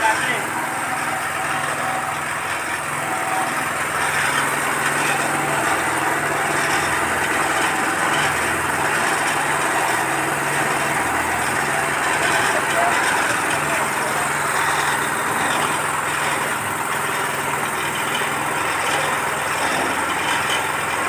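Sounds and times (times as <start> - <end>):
small petrol engine running: 0.0 - 21.0.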